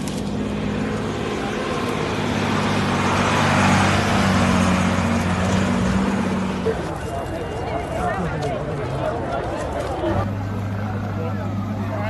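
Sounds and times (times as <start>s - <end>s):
engine running steadily: 0.0s - 7.2s, 8.4s - 12.0s.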